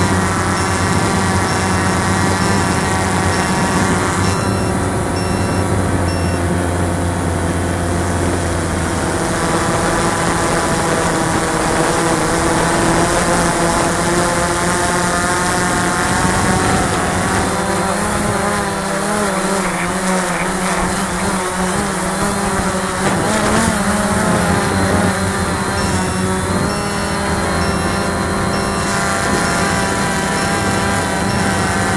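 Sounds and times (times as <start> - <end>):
drone propellers buzzing: 0.0 - 31.9.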